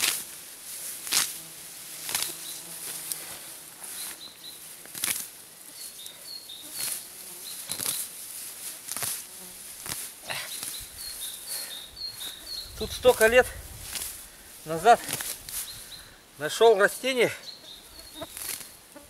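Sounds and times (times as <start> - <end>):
weeds being pulled rustling: 0.0 - 16.0, 18.0 - 18.8
faint insect buzz: 0.0 - 16.3, 17.5 - 19.0.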